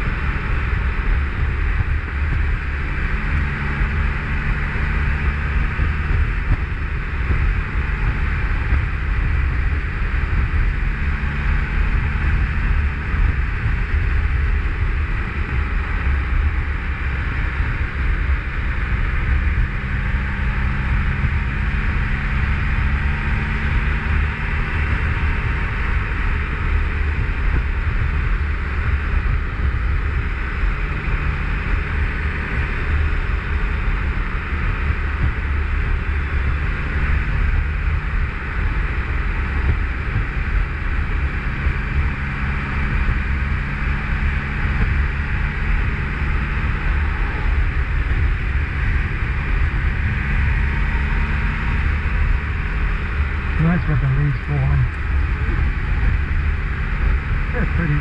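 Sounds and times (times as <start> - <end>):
wind rush on microphone: 0.0 - 53.7, 54.8 - 58.0
motorcycle engine drone: 0.0 - 58.0
road noise: 0.0 - 58.0.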